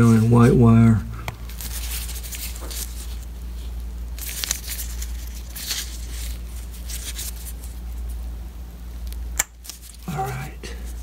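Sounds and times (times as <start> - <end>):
steady low hum: 0.0 - 11.0
plastic gloves crinkling: 1.3 - 11.0.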